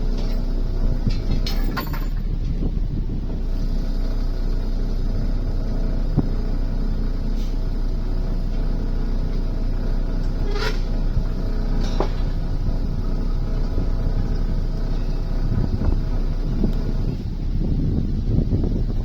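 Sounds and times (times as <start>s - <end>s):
ship diesel engine rumbling: 0.0s - 19.0s.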